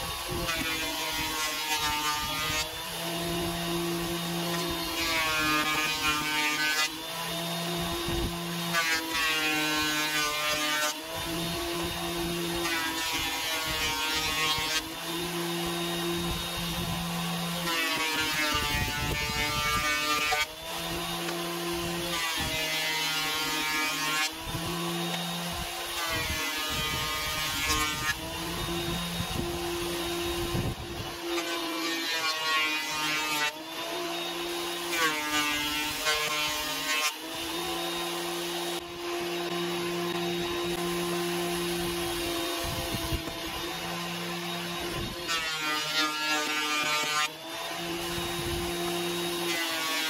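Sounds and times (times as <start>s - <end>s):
thickness planer motor whine: 0.0s - 50.0s.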